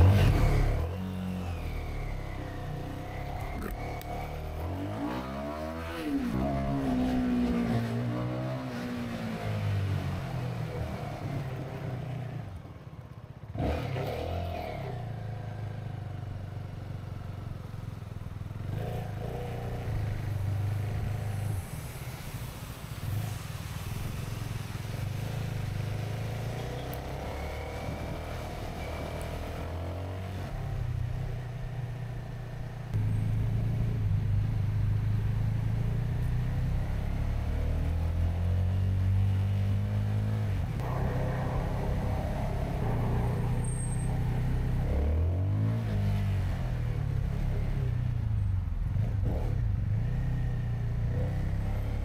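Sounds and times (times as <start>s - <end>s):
road noise on wet tarmac: 0.0s - 52.0s.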